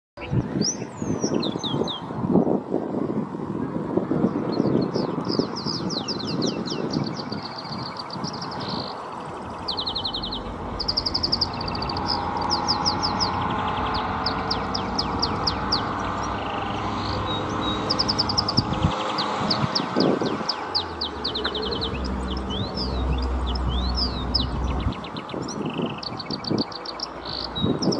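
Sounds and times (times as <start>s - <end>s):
canary singing trills: 0.2s - 2.1s, 4.4s - 27.9s.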